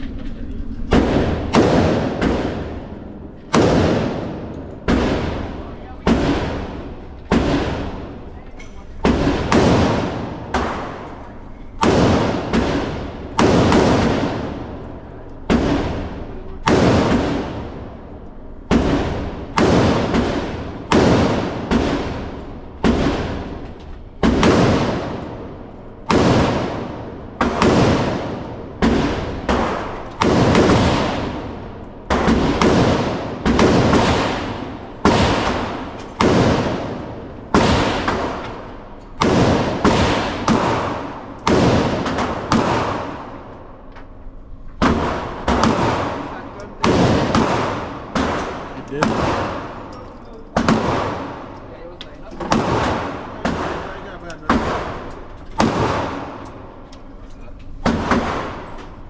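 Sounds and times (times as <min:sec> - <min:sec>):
echoing gunshots: 0:00.6 - 0:59.0.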